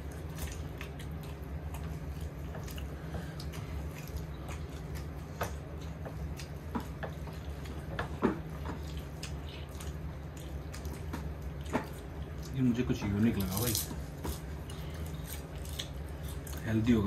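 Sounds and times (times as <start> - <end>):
steady low hum: 0.0 - 17.0
wet chewing: 0.0 - 17.0.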